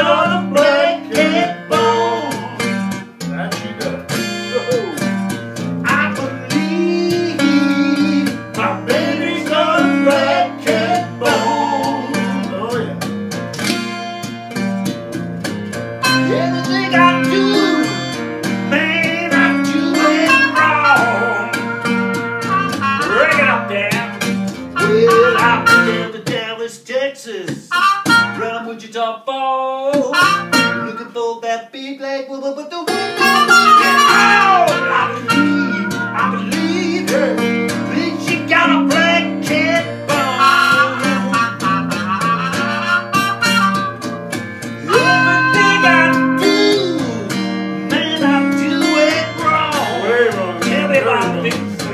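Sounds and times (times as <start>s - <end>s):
blues trumpet: 0.0s - 14.9s, 15.8s - 26.2s, 27.7s - 28.6s, 30.0s - 31.2s, 32.9s - 51.9s
acoustic guitar: 0.0s - 51.9s.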